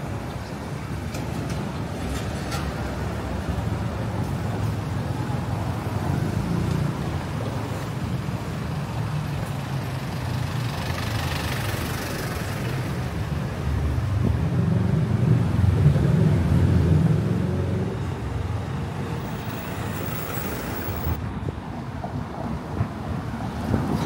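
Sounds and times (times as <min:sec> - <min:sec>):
traffic engine rumble: 0:00.0 - 0:24.0.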